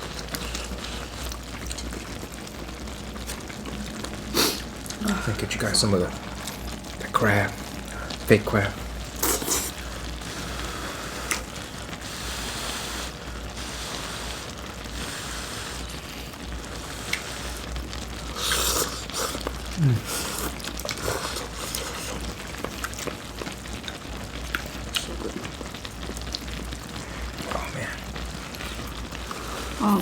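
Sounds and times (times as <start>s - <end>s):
eating noise: 0.0s - 5.2s, 6.1s - 30.0s
stew bubbling in a pot: 0.0s - 30.0s.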